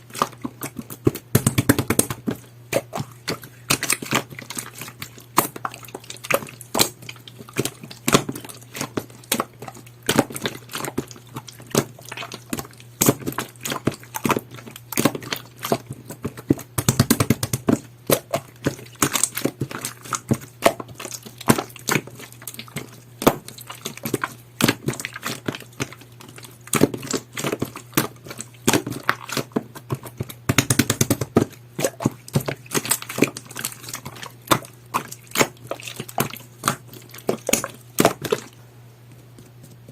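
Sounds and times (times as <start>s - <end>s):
slime squishing and popping: 0.0s - 38.6s.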